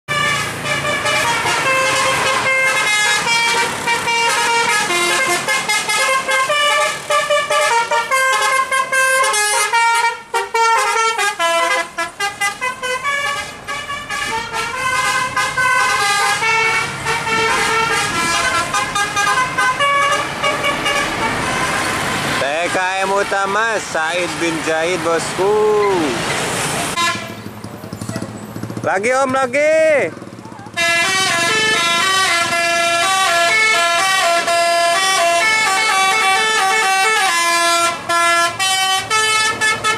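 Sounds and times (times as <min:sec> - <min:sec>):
bus musical horn tune: 0:00.1 - 0:23.6, 0:26.9 - 0:27.5, 0:30.7 - 0:39.9.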